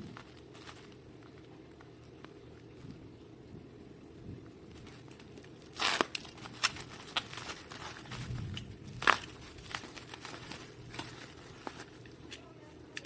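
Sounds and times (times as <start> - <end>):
packaging crinkling and tearing: 0.0 - 2.8, 4.6 - 13.0.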